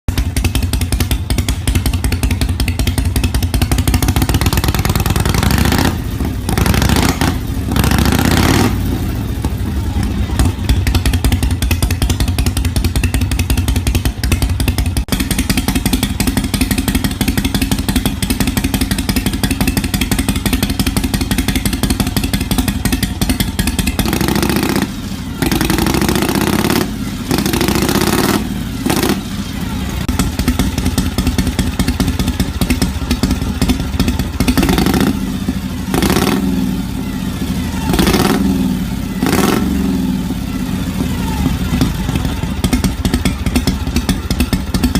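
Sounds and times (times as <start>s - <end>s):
engine exhaust revving: 0.1s - 44.9s.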